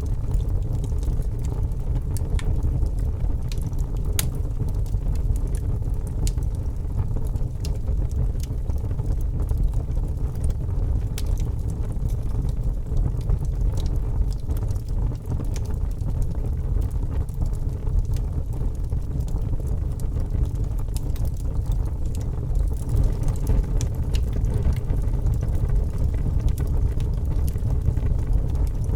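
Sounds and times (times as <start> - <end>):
fire flames rumbling: 0.0 - 28.9
logs crackling and popping: 0.0 - 28.9.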